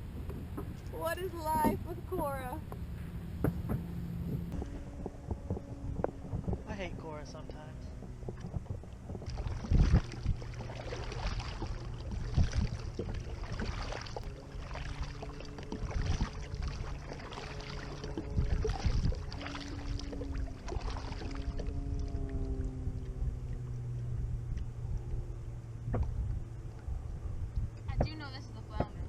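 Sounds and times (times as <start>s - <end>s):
low rumble: 0.0s - 29.0s
water splashing around kayak: 0.0s - 29.0s.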